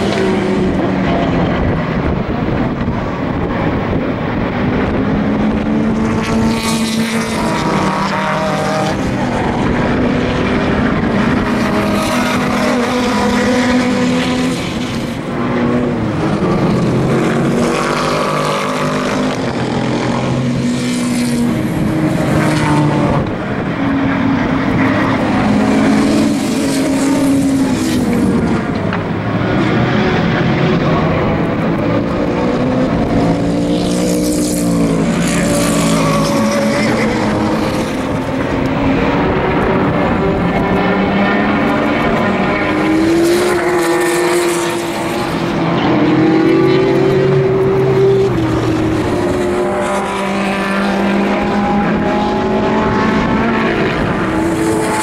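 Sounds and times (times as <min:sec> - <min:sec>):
race cars passing at speed: 0:00.0 - 0:55.0.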